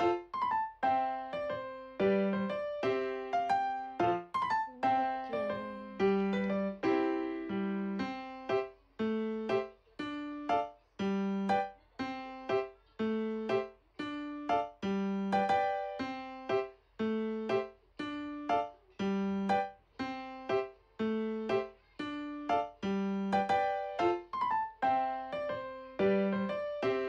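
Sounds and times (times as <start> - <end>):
light piano keyboard tune: 0.0 - 27.0.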